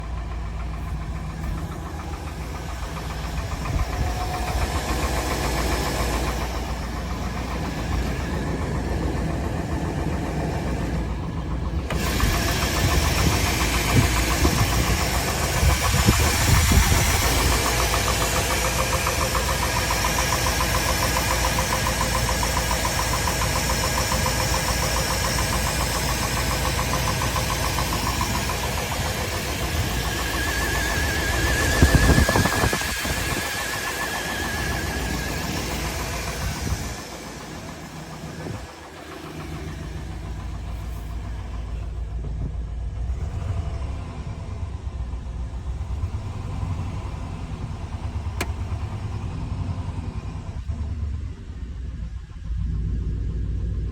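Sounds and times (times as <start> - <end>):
truck engine knocking: 0.0 - 53.9.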